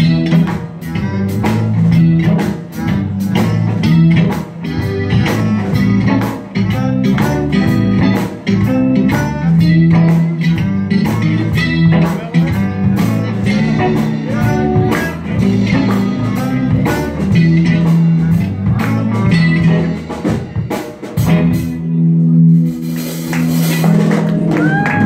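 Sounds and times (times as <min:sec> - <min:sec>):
drums: 0:00.0 - 0:25.0
electric guitar: 0:00.0 - 0:25.0
live blues band: 0:00.0 - 0:25.0.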